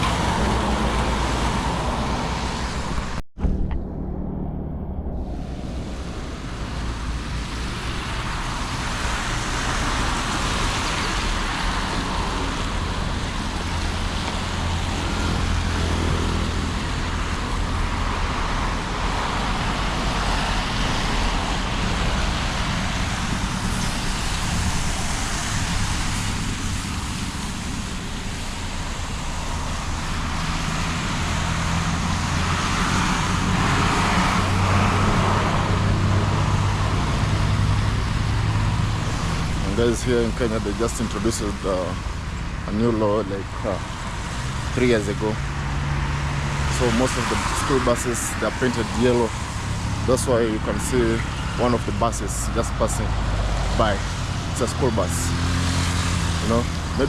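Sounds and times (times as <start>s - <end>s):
car and bus engines: 0.0s - 57.0s
heavy engine hum: 0.0s - 57.0s.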